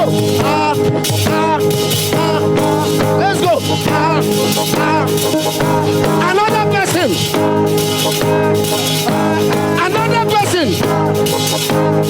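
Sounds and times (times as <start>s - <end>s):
drum beat: 0.0s - 12.0s
keyboard chords: 0.0s - 12.0s
person singing: 0.0s - 12.0s.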